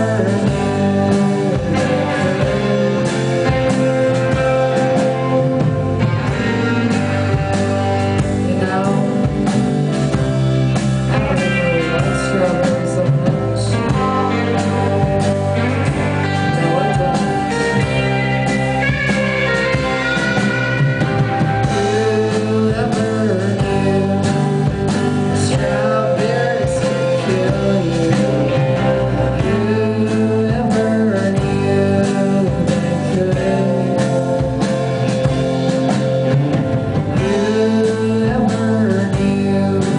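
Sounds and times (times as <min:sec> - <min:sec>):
live rock band: 0:00.0 - 0:39.9
person singing: 0:00.0 - 0:39.9.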